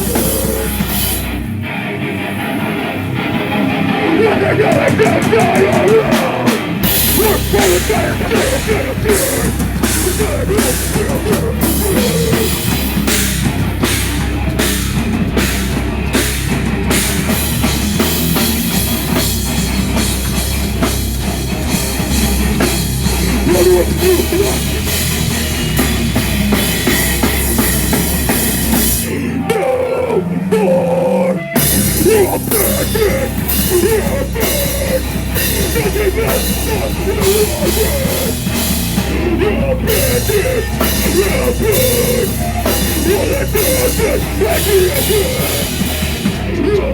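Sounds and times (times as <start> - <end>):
heavy metal band playing: 0.0 - 46.9.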